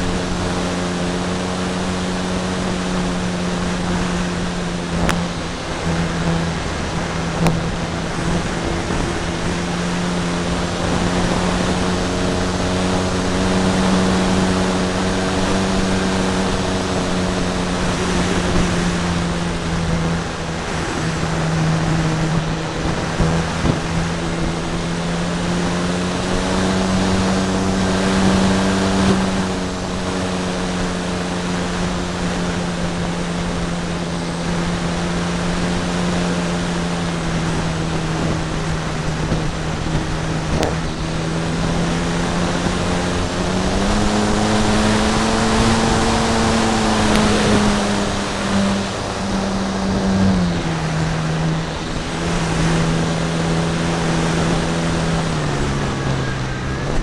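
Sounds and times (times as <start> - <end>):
propeller drone: 0.0 - 57.0
wind rushing over microphone: 0.0 - 57.0.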